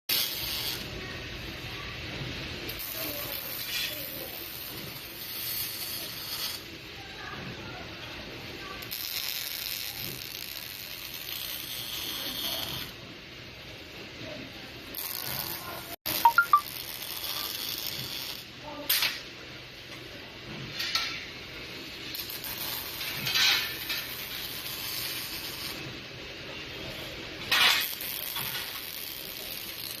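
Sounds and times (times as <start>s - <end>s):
welding machine clatter: 0.1s - 13.0s, 14.8s - 30.0s.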